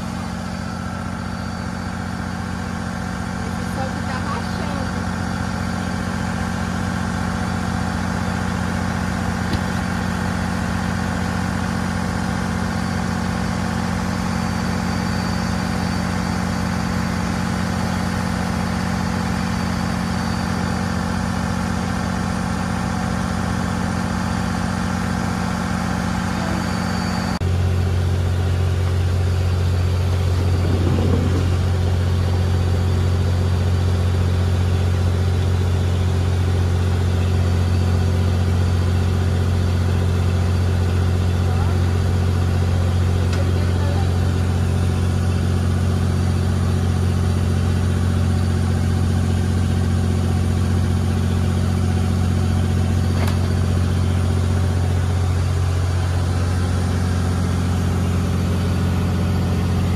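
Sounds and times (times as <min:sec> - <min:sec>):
riverboat engine drone: 0:00.0 - 0:59.9.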